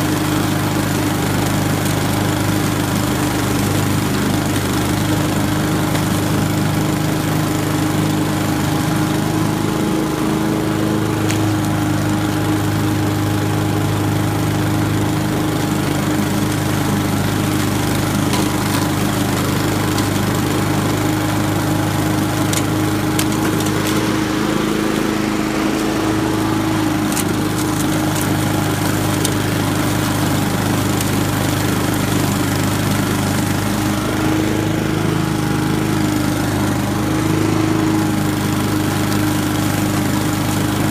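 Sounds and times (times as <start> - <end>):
lawn mower engine cutting grass: 0.0 - 40.9.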